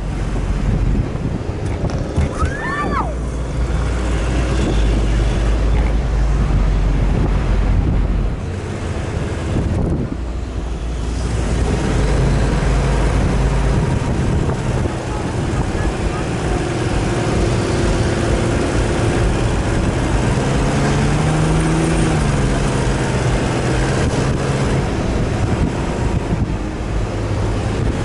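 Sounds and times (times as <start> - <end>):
off-road vehicle rumble: 0.0 - 28.0
wind buffeting microphone: 0.0 - 28.0.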